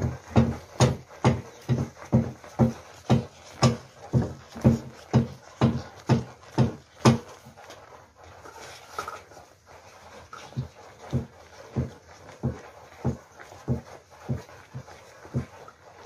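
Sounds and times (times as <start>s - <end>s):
paddle stirring thick food: 0.0s - 16.0s.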